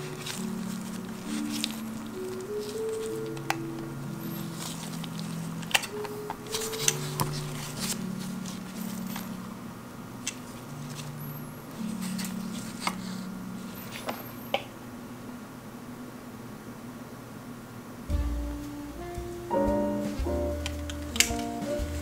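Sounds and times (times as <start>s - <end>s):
soft background music: 0.0s - 14.4s, 18.1s - 22.0s.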